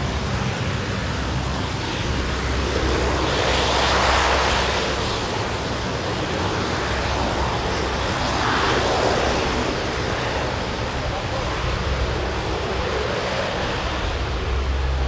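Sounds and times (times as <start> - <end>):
propeller aircraft engines drone: 0.0 - 15.0.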